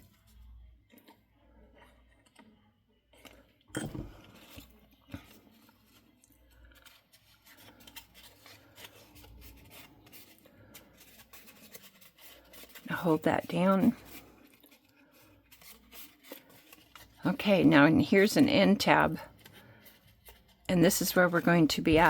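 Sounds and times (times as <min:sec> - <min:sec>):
paper crinkling: 0:00.0 - 0:03.5, 0:04.1 - 0:22.0
cardstock rustling and rubbing: 0:04.3 - 0:22.0.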